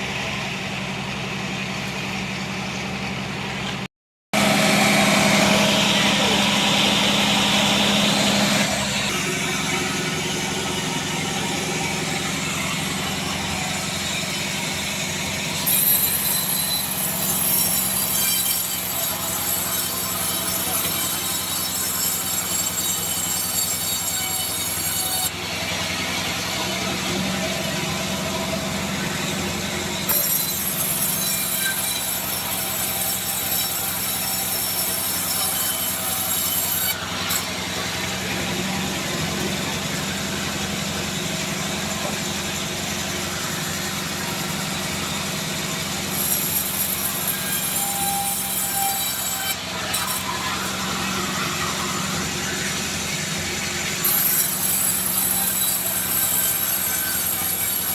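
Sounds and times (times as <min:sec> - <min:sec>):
sawmill machine hum: 0:00.0 - 0:57.9.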